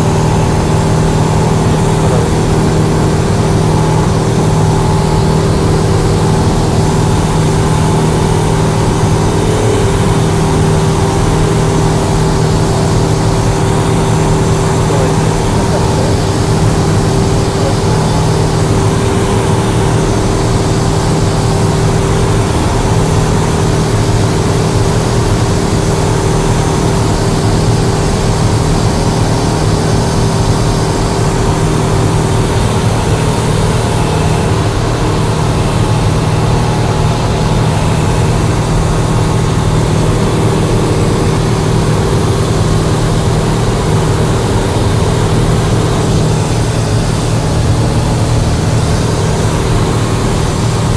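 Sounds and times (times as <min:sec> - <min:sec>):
airplane piston engine and propeller: 0:00.0 - 0:50.9.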